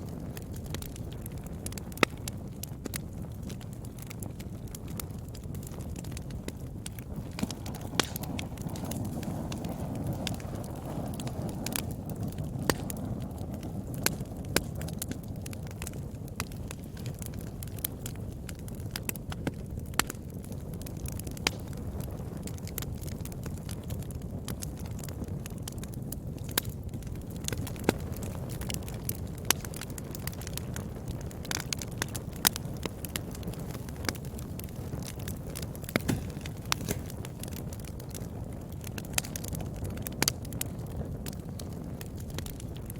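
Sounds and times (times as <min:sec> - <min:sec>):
fire crackling and popping: 0:00.0 - 0:42.9
fire rumbling: 0:00.0 - 0:42.9
flames rushing: 0:00.0 - 0:42.9.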